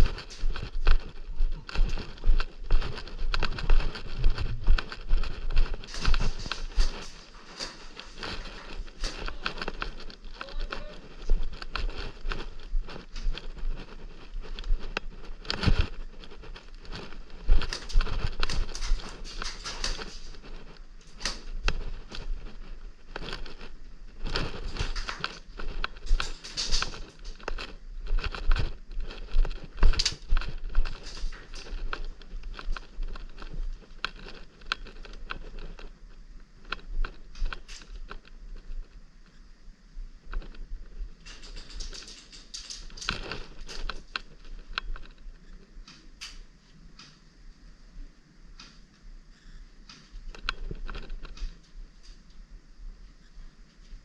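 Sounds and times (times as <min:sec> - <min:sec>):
clicks taps and rustles: 0:00.0 - 0:38.9, 0:40.3 - 0:47.2.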